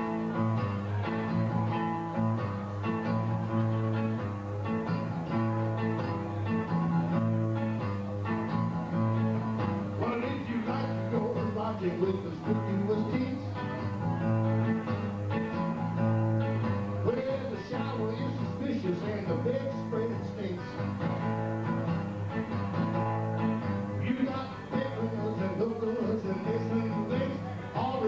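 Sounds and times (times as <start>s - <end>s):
blues electric guitar: 0.0s - 28.0s.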